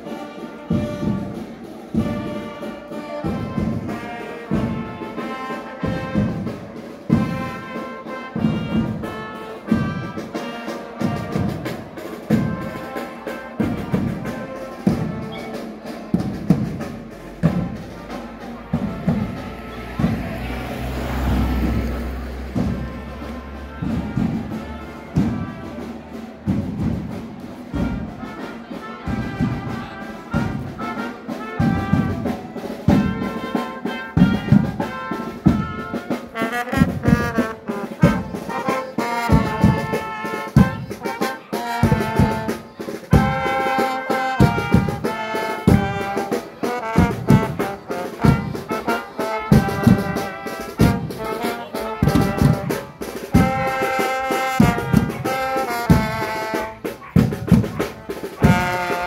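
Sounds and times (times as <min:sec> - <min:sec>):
brass band playing lively tune: 0:00.0 - 0:59.0.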